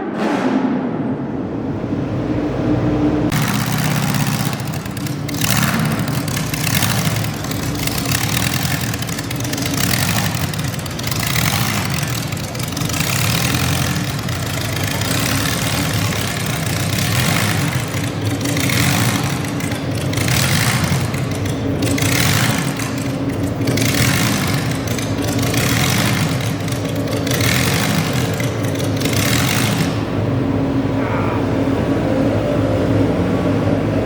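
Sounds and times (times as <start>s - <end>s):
loud tractor engine running: 1.4s - 34.0s.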